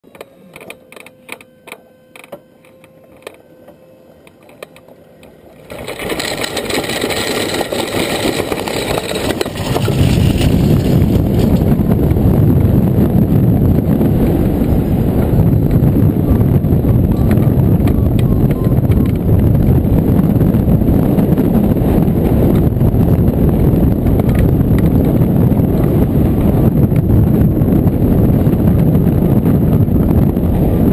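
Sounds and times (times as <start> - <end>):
wind rushing over microphone: 5.7 - 30.9.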